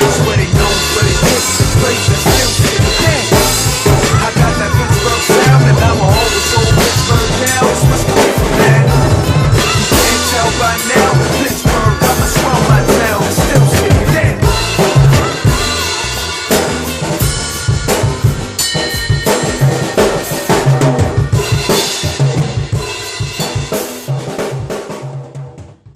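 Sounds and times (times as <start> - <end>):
hip-hop track with bass line: 0.0 - 23.8
drum kit funky groove: 0.0 - 25.9.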